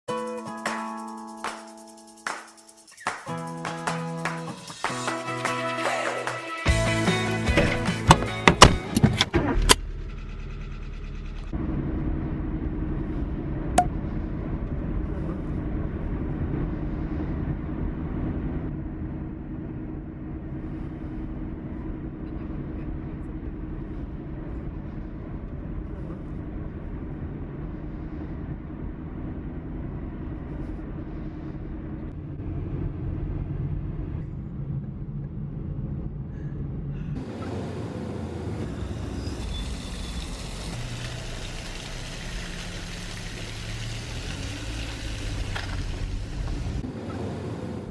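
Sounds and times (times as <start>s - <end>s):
car engine and road noise: 6.7s - 47.9s.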